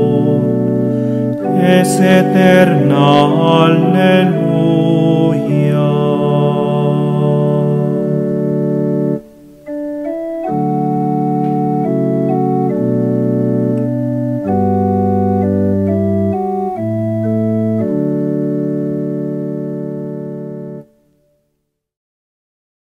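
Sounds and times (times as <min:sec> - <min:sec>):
organ-like keyboard chords: 0:00.0 - 0:21.3.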